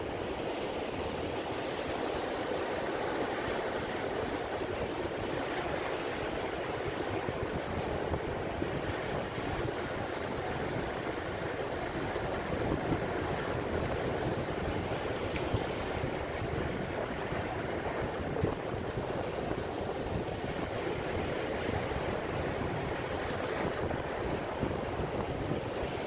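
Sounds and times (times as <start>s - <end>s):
surf breaking on beach: 0.0s - 26.0s
wind buffeting microphone: 3.4s - 26.0s.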